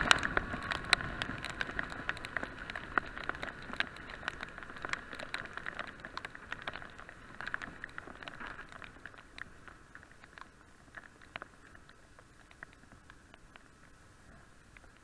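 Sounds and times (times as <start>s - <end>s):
raindrops tapping on camera case: 0.0s - 15.0s
rushing hiss of wind and wet road: 0.0s - 15.0s.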